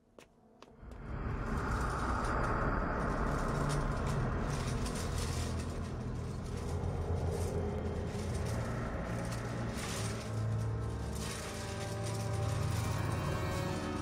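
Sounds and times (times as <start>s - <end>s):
low rumbling drone: 0.8s - 14.0s.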